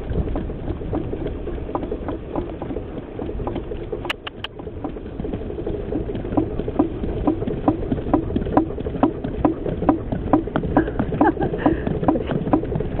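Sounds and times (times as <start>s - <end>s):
cart wheels rumbling on road: 0.0s - 13.0s
hooves clip-clopping on asphalt: 0.0s - 13.0s.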